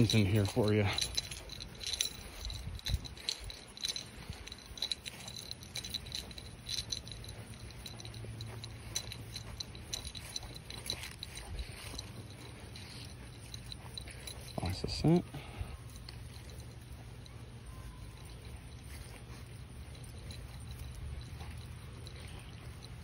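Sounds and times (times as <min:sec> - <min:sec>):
small metal pieces jingling: 0:00.0 - 0:23.0.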